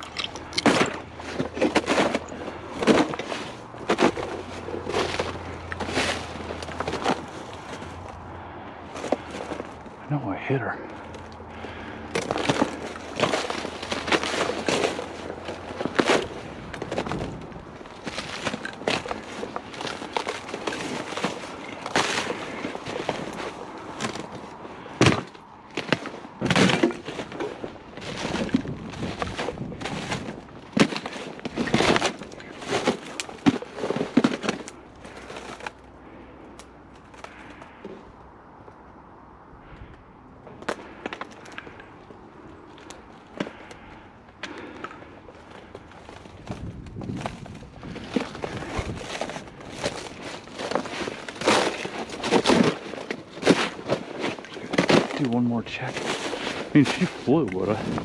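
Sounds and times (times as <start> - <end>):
rustling and crackling: 0.0 - 39.0, 39.6 - 58.0.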